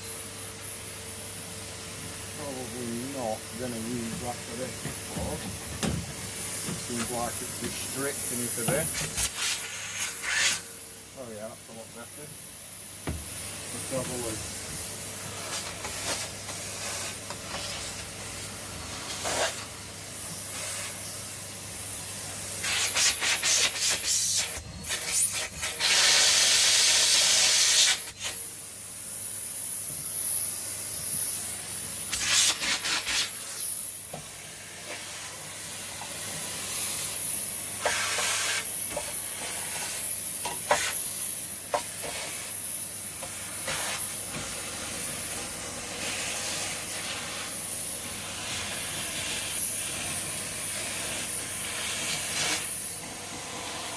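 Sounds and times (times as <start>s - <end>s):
vacuum cleaner running: 0.0s - 53.9s
vacuum nozzle air rushes: 6.1s - 10.9s, 13.0s - 53.9s.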